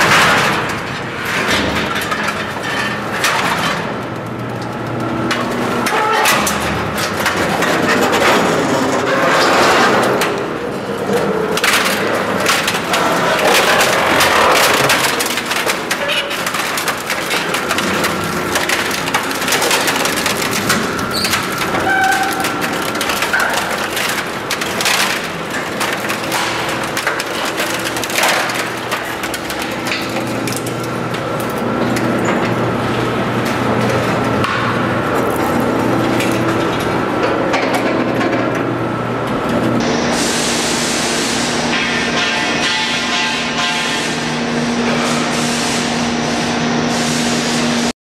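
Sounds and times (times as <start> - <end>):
crunching and splintering: 0.0 - 38.6
machine hum: 0.0 - 47.9.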